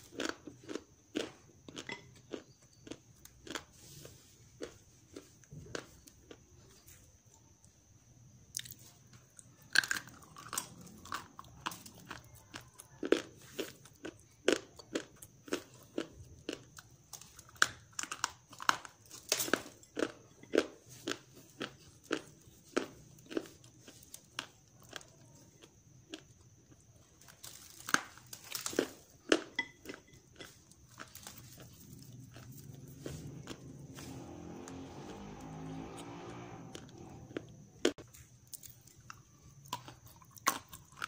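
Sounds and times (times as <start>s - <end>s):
dried clay crunching in chewing: 0.0s - 7.6s, 8.5s - 41.0s.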